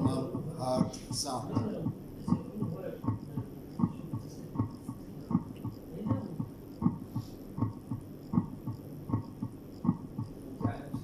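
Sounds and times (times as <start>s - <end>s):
faint hum: 0.0s - 11.0s
heartbeat lub-dub: 0.0s - 11.0s.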